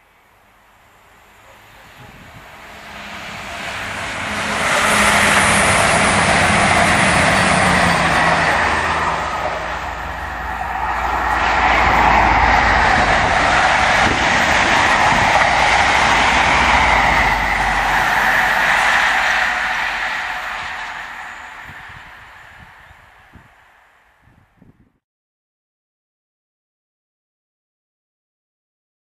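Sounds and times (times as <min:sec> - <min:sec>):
diesel trains passing: 0:00.0 - 0:24.6.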